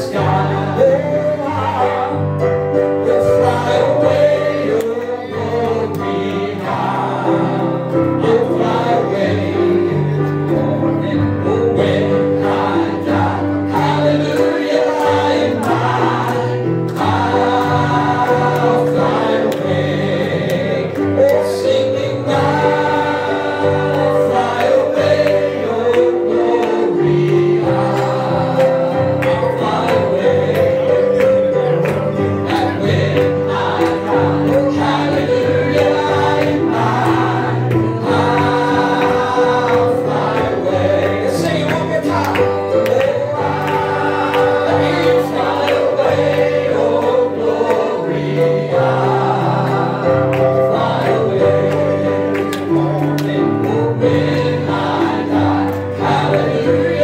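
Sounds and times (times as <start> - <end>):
choir singing gospel song: 0.0 - 57.0
instrumental accompaniment: 0.0 - 57.0.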